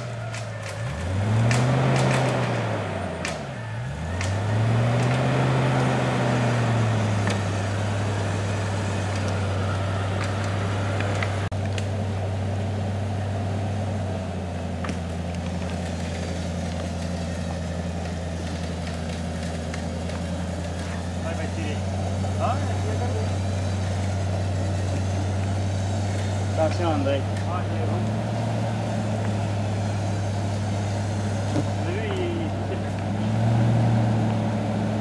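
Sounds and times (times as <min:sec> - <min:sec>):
car engine revving under load: 0:00.0 - 0:35.0.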